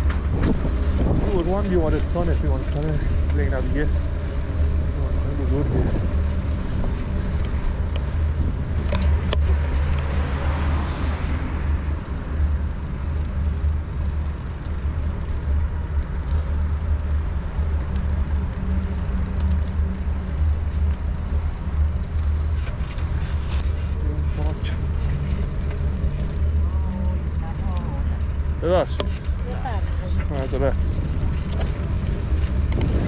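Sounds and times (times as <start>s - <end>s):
wind and road noise rumble: 0.0s - 33.0s.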